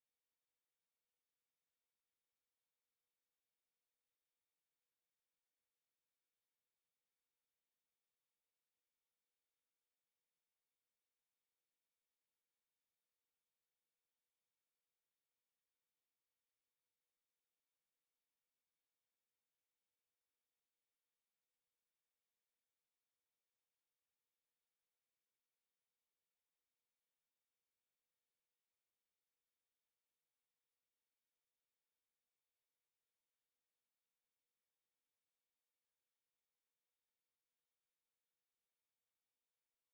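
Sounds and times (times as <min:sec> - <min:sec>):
high-pitched sine test tone: 0:00.0 - 0:39.9.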